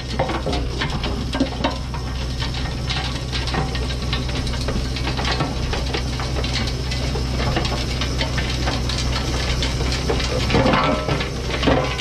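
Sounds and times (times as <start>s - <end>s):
diesel engine running under load: 0.0s - 12.0s
rototiller crunching through soil: 0.0s - 12.0s.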